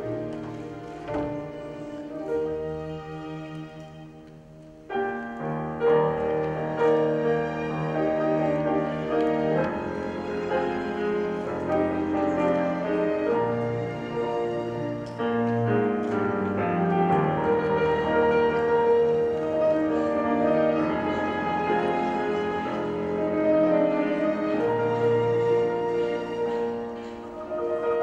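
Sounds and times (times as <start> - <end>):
grand piano playing: 0.0 - 28.0
orchestra bowed strings: 0.0 - 28.0.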